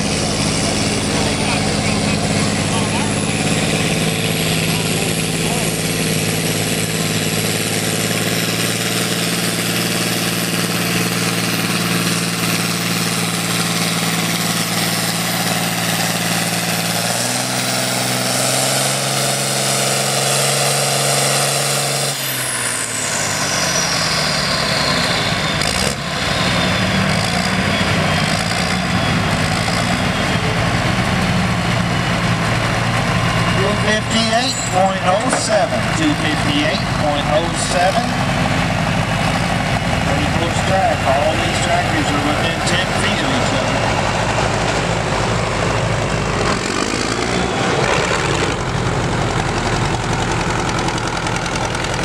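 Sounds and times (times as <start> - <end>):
high engine whine: 0.0 - 52.0
tractor engine running under load: 0.0 - 52.0.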